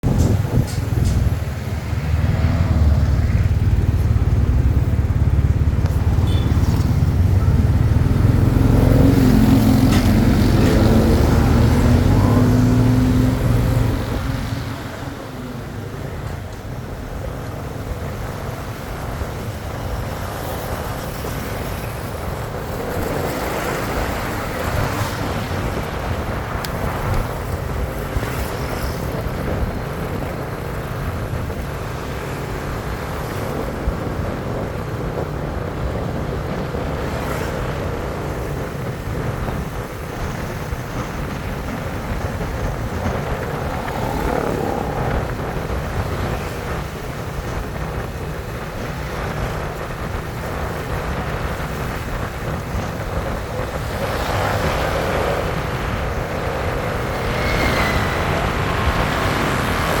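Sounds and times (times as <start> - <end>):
bike road noise rumble: 0.0 - 60.0.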